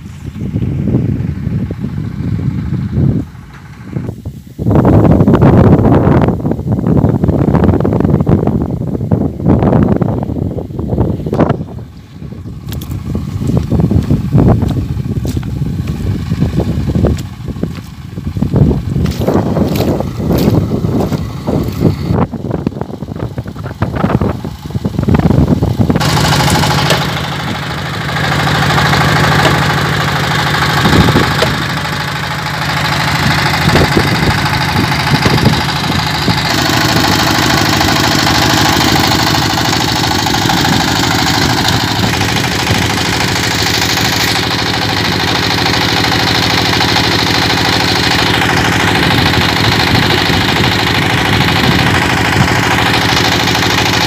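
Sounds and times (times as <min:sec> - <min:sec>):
diesel engine running winch: 0:00.0 - 0:54.0
wind buffeting microphone: 0:00.0 - 0:54.0.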